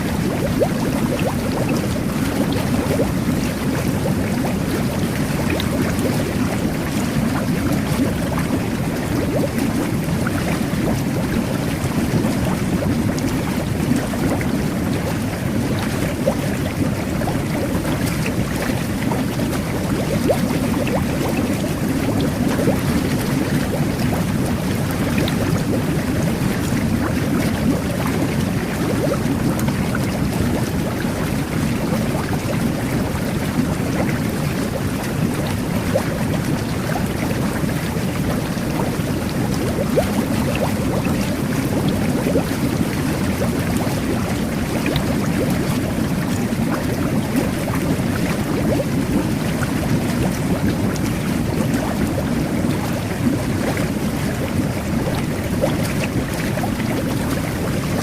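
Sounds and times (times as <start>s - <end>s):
jet bath water bubbling: 0.0s - 58.0s.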